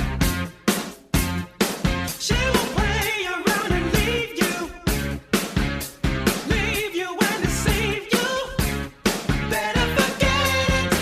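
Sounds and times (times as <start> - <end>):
pop-rock song with singing: 0.0 - 11.0.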